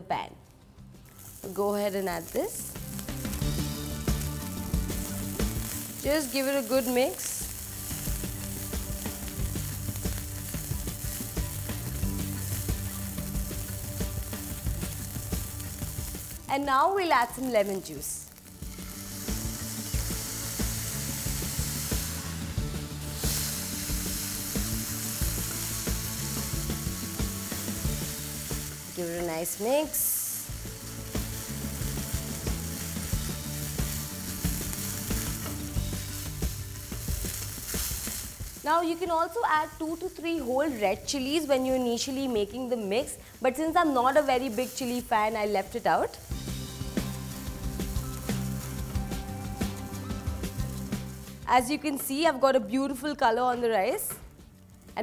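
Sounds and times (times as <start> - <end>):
light sizzle: 0.4 - 55.0.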